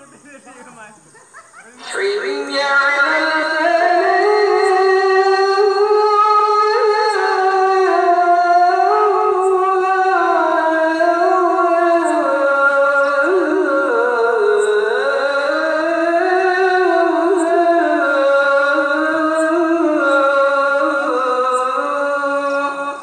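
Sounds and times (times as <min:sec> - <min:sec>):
man chanting call to prayer: 0:01.8 - 0:23.0.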